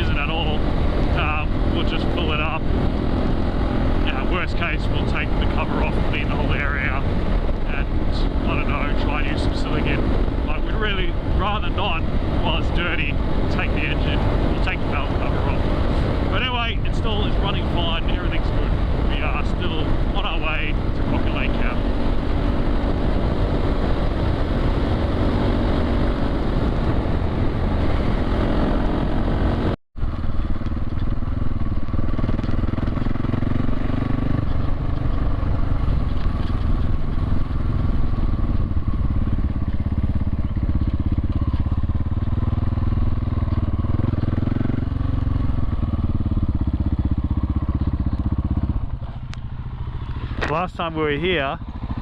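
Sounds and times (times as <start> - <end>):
dirt bike engine cruising: 0.0 - 52.0
wind and road noise: 0.0 - 52.0.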